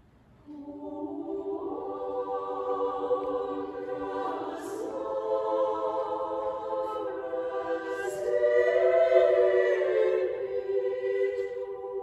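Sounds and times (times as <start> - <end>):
choir singing a cappella: 0.4 - 12.0.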